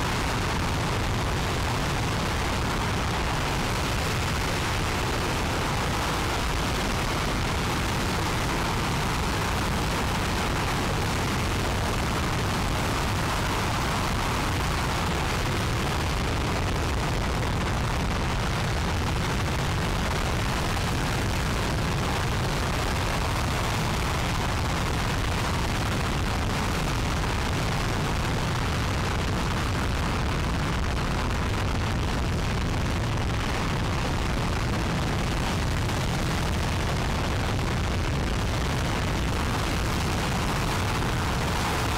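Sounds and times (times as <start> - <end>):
rocket engine roaring: 0.0 - 41.9.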